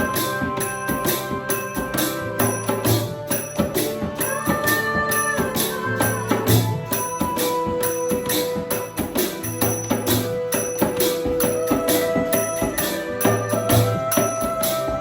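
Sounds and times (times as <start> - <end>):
drum beats: 0.0 - 15.0
hand cymbals jingling: 0.0 - 15.0
long held melodic tones: 0.0 - 15.0.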